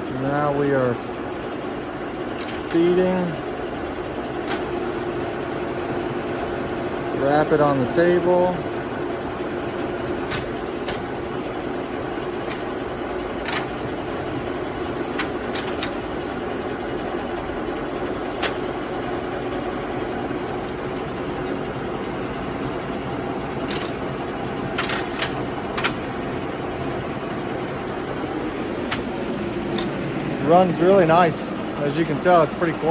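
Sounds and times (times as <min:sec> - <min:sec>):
milling machine humming: 0:00.0 - 0:32.9.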